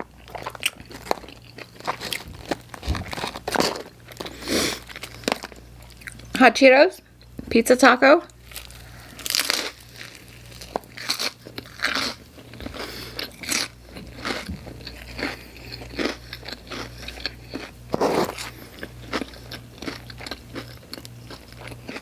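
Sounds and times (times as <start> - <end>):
crunching and chewing food: 0.0 - 6.4, 7.0 - 7.5, 8.2 - 22.0.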